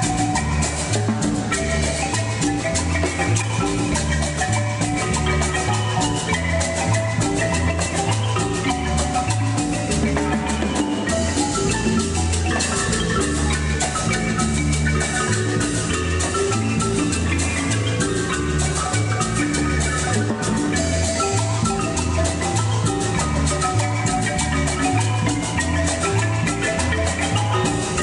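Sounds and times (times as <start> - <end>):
congas: 0.0 - 28.0
marimba playing: 0.0 - 28.0.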